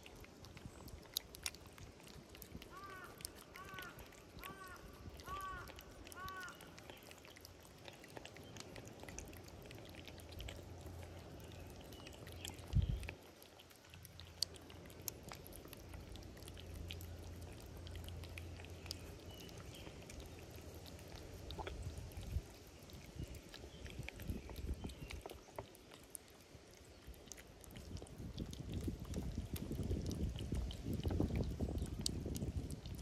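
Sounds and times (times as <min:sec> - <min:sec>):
cats lapping and chewing: 0:00.0 - 0:33.0.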